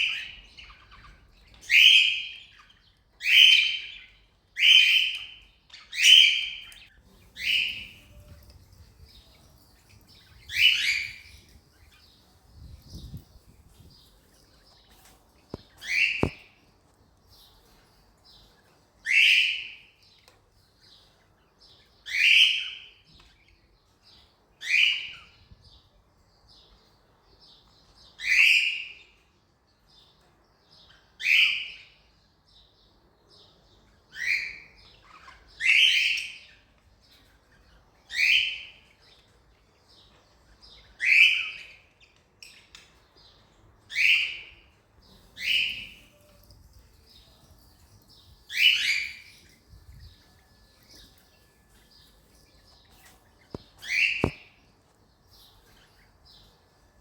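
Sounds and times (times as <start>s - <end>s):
soft bird chirps: 0.0s - 57.0s.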